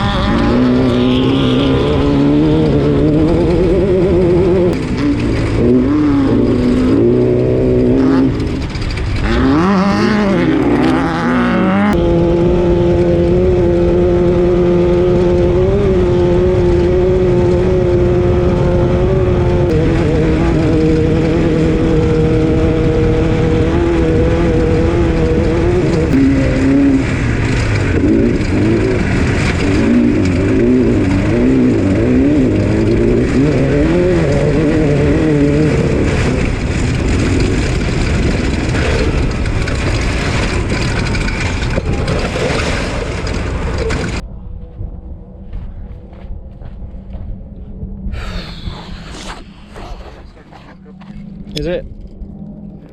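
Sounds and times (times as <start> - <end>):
race car engine revving: 0.0 - 44.2.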